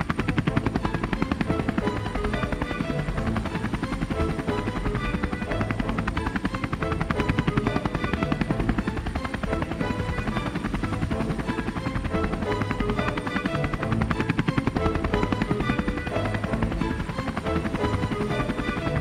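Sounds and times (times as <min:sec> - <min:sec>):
helicopter rotor chopping: 0:00.0 - 0:19.0
music playing: 0:00.0 - 0:19.0.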